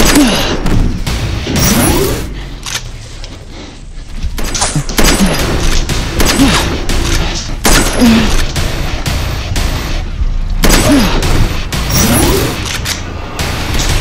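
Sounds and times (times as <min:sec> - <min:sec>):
rapid gunfire-like shots: 0:00.0 - 0:02.8, 0:04.4 - 0:14.0.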